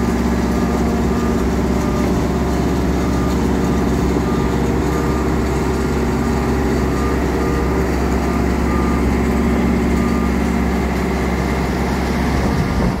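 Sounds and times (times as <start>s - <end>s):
engine humming deeply: 0.0s - 13.0s.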